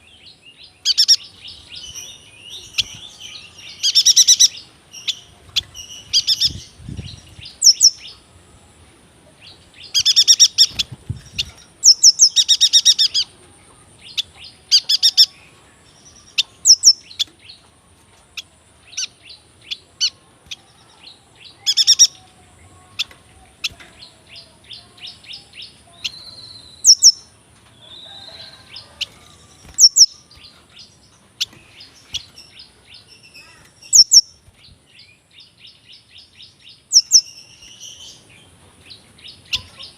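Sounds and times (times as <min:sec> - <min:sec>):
bird trilling and chirping: 0:00.7 - 0:08.2, 0:09.8 - 0:17.6, 0:18.3 - 0:38.3.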